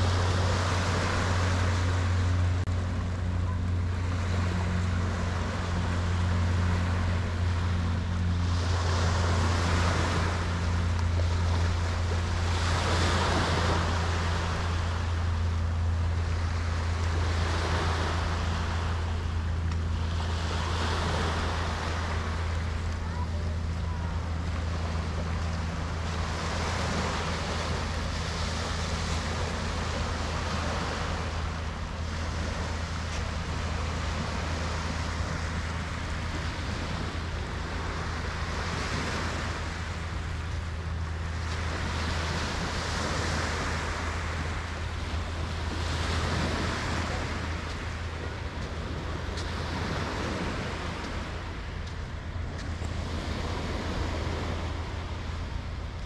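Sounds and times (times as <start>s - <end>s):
small waves washing onto shore: 0.0s - 56.0s
steady low hum: 0.0s - 56.0s.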